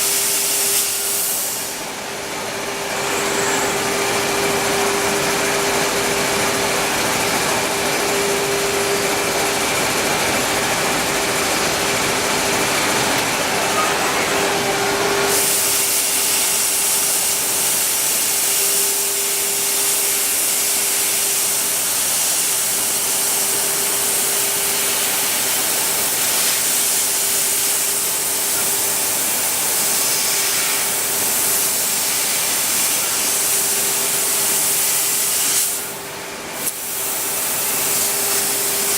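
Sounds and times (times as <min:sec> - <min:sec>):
machine whine: 0:00.0 - 0:38.9.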